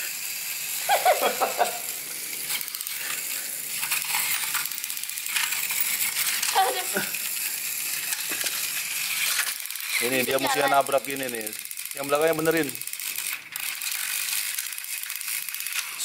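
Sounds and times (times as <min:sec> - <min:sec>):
toy train whirring: 0:00.0 - 0:16.0
clatter of small clicks: 0:02.3 - 0:16.0.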